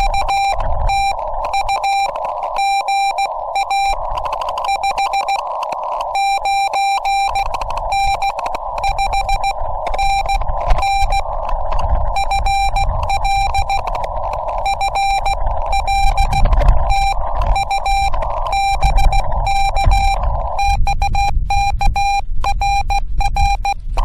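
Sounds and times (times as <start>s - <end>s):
morse code beeps: 0.0s - 24.0s
radio band static hiss: 0.0s - 24.0s.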